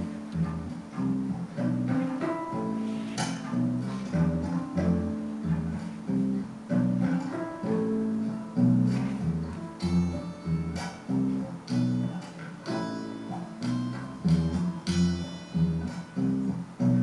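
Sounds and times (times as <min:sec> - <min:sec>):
acoustic guitar plucking: 0:00.0 - 0:17.0
low bass notes: 0:00.0 - 0:17.0.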